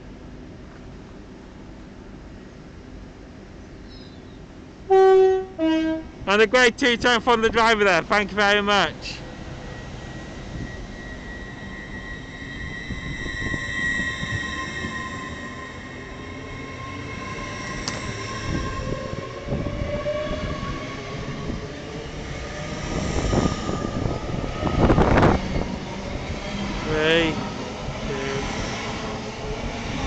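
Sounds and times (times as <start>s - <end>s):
train carriages rushing by: 5.6s - 30.0s.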